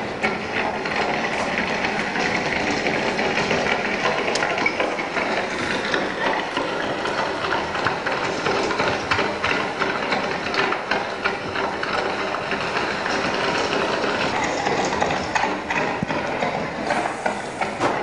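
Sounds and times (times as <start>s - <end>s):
dense mechanical clatter: 0.0s - 18.0s.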